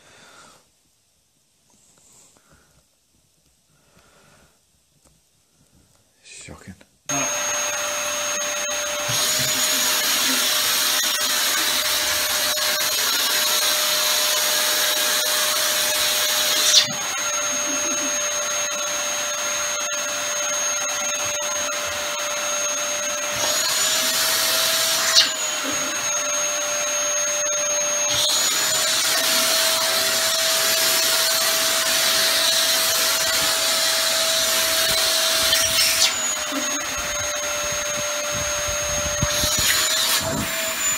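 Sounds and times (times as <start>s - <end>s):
vacuum cleaner running: 7.1s - 40.9s.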